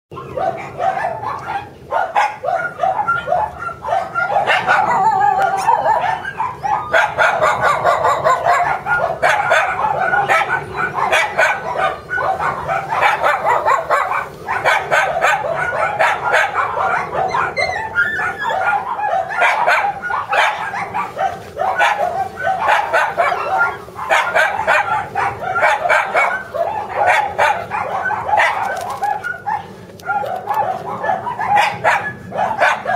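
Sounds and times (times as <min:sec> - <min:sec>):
puppies yipping and barking: 0:00.1 - 0:32.9.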